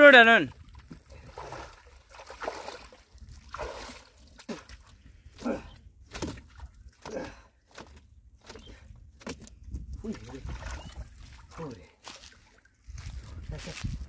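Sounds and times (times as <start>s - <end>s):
pond water sloshing: 0.0s - 13.4s.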